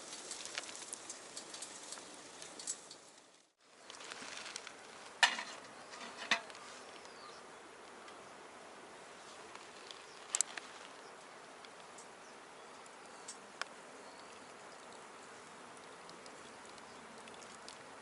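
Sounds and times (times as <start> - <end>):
wood fire crackling in stove: 0.0 - 7.2, 9.1 - 18.0.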